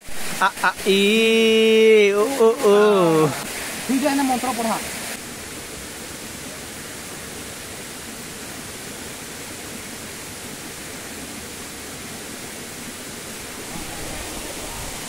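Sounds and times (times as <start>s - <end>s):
stream water over rocks: 0.0s - 15.0s.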